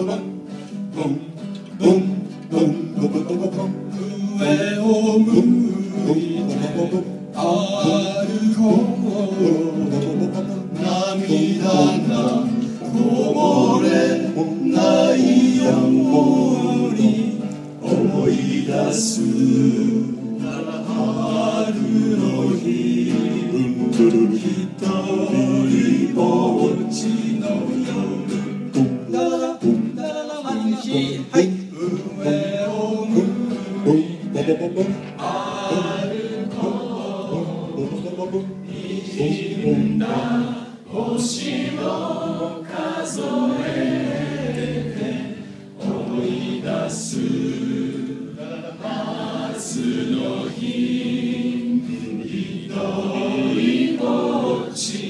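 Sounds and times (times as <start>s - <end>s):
strummed acoustic guitar: 0.0s - 55.0s
men singing together: 1.0s - 55.0s.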